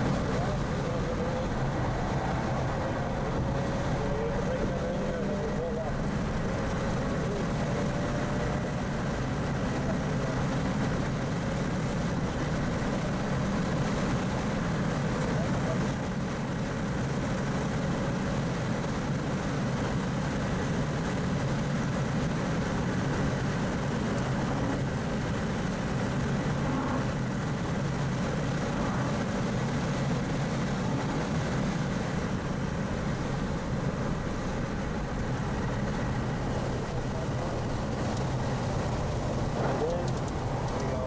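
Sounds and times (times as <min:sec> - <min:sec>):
rotary engine running at speed: 0:00.0 - 0:41.0.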